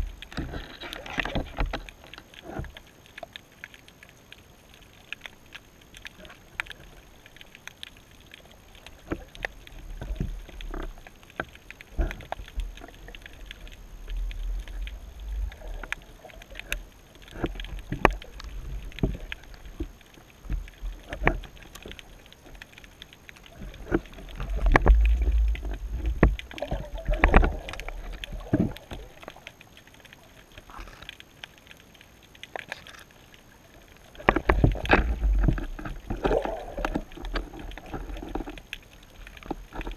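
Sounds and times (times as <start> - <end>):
underwater rumbling surges of water: 0.0 - 39.9.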